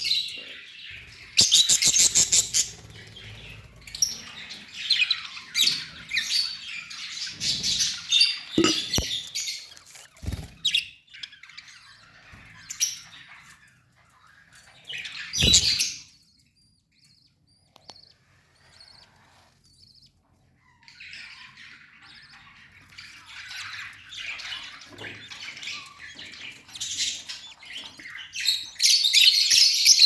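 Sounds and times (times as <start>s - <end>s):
budgerigars chirping and squawking: 0.0s - 30.0s.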